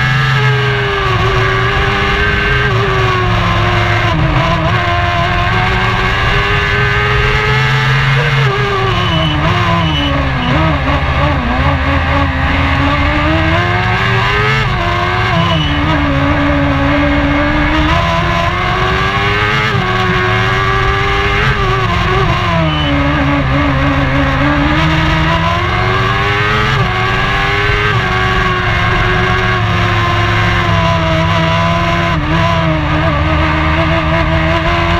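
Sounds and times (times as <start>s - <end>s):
race car engine accelerating: 0.0s - 34.9s.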